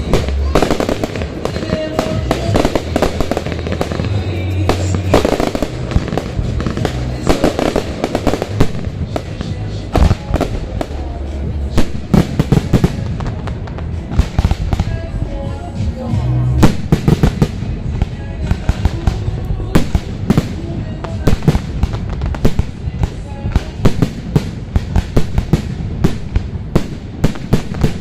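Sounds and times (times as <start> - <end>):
music with bass line: 0.0 - 22.4
fireworks bursts and crackling: 0.0 - 28.0
loud fireworks bangs: 0.0 - 28.0.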